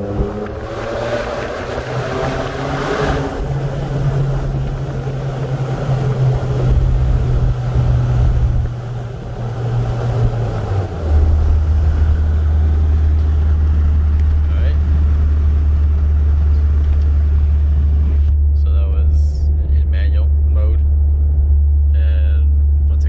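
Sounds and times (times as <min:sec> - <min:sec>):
truck exhaust drone: 0:00.0 - 0:23.0.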